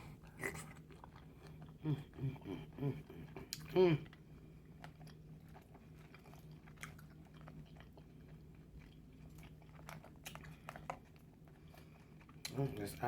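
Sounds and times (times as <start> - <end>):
close chewing with crunches: 0.0 - 13.0.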